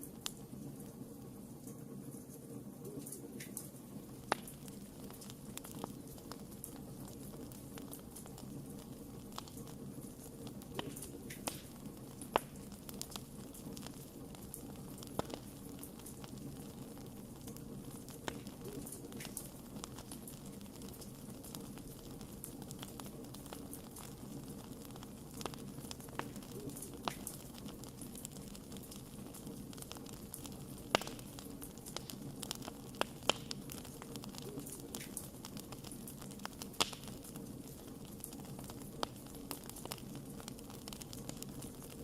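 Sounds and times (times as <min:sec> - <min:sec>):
campfire crackling and popping: 0:00.0 - 0:42.0
sharp snaps of fire: 0:00.0 - 0:42.0.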